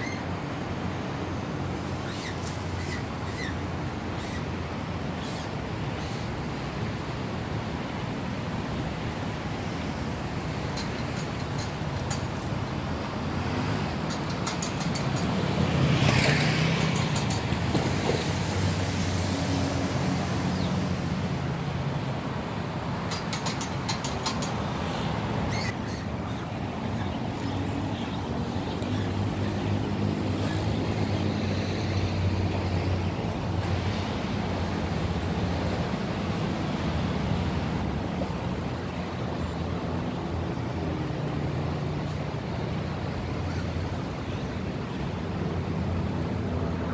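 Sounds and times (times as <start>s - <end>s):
road traffic noise: 0.0s - 46.9s.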